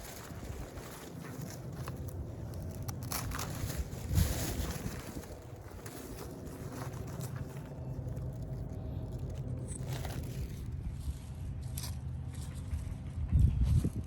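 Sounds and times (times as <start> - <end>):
low rumble: 0.0 - 11.7
low mechanical hum: 0.0 - 14.0.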